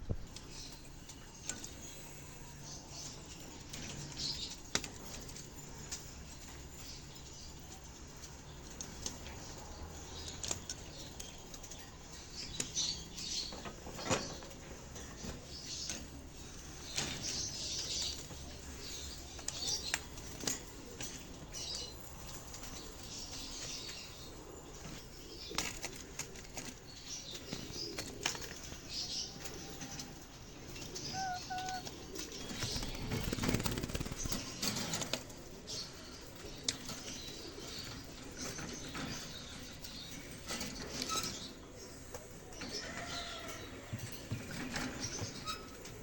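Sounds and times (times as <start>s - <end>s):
wings rustling and fluttering: 8.1s - 46.0s.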